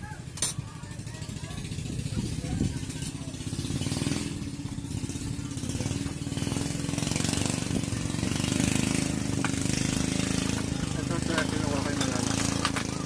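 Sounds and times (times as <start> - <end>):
small engine running: 0.1 - 13.0.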